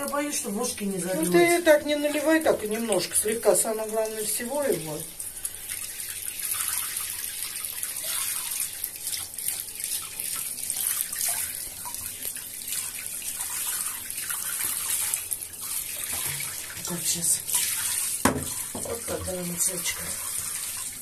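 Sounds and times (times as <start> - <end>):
shower water splashing into bathtub: 0.0 - 21.0.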